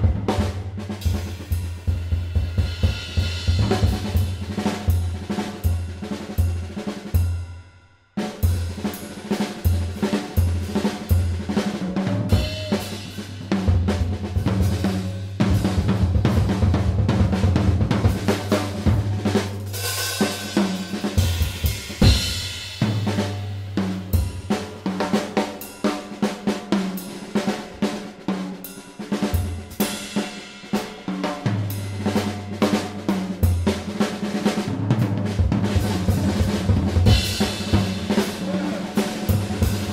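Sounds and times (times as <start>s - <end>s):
drum kit beat: 0.0s - 7.5s, 8.2s - 39.9s.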